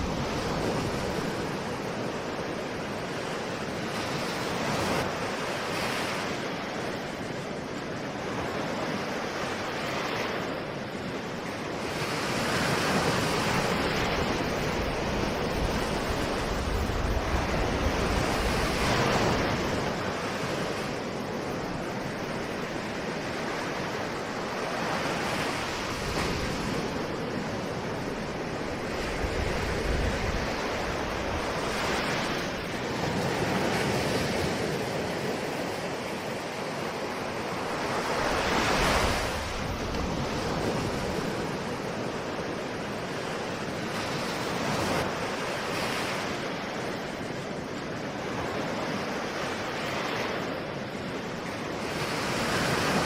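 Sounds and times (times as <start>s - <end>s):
ocean waves washing ashore: 0.0s - 53.0s
wind rumble on microphone: 0.0s - 53.0s.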